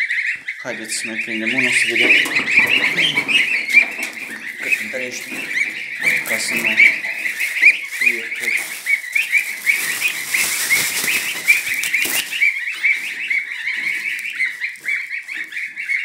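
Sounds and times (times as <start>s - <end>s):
goslings peeping: 0.0s - 16.0s
rustling: 0.9s - 16.0s.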